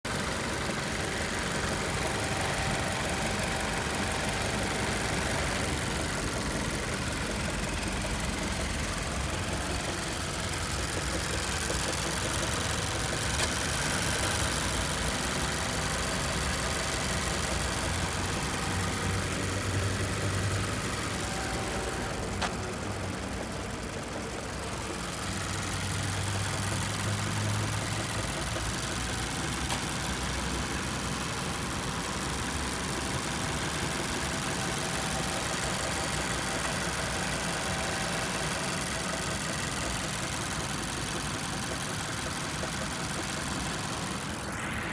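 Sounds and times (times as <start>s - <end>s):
petrol engine idling with a knock: 0.1s - 44.8s.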